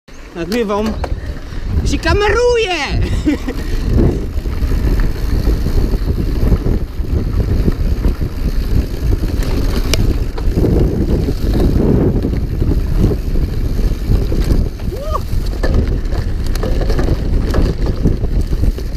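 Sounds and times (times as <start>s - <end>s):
mountain bike rumbling and rattling: 0.1s - 18.9s
wind buffeting microphone: 0.3s - 18.9s.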